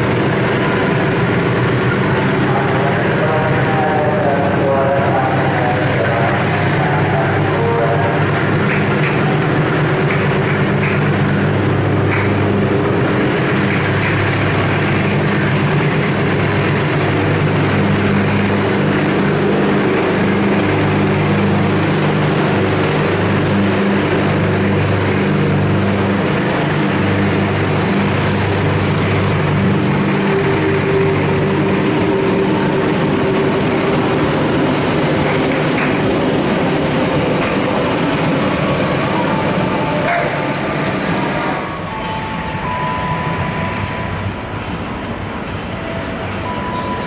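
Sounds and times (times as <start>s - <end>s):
locomotive engine droning: 0.0s - 47.0s
train carriages rolling: 0.0s - 47.0s.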